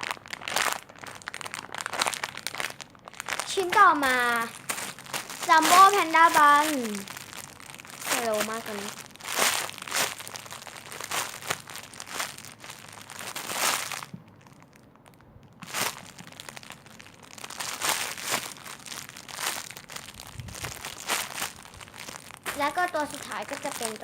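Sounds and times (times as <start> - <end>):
foam toy crinkling and rustling: 0.0 - 24.0.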